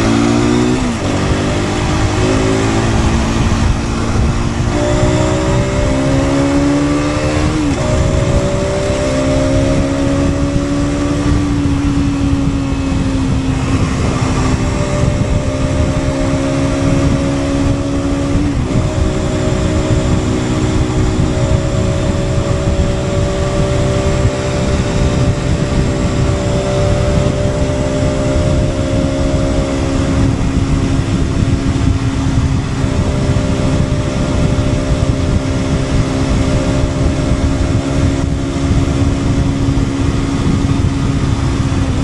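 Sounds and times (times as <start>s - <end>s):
motorcycle engine accelerating: 0.0s - 42.0s
wind rush: 0.0s - 42.0s.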